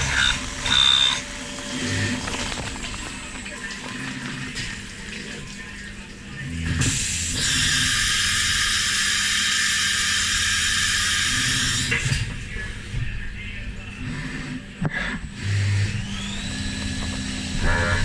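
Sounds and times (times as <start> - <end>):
milling machine humming: 0.0 - 18.0.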